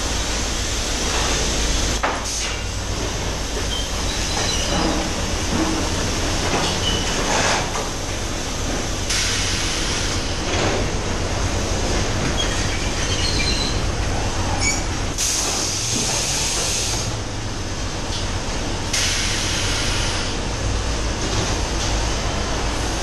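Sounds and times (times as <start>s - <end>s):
machine rumble and hum: 0.0s - 23.0s.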